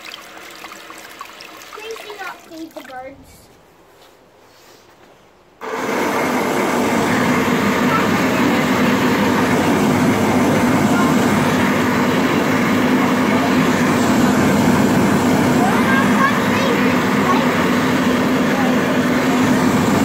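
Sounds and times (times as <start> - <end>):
hand dryer running: 0.0 - 3.1, 5.6 - 20.0.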